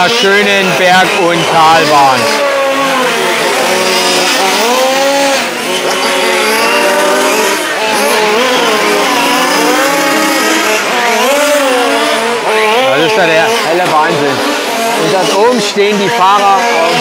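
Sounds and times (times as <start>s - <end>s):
model car engines revving: 0.0s - 17.0s.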